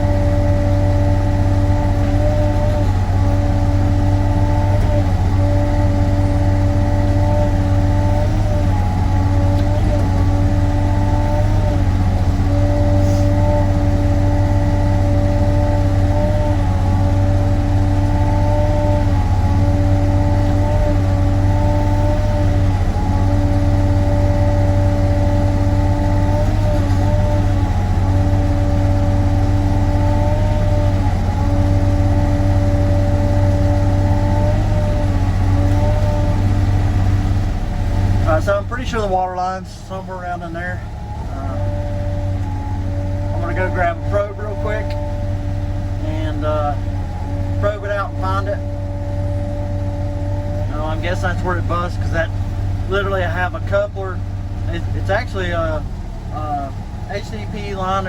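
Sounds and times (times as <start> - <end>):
excavator engine drone with whine: 0.0 - 58.0.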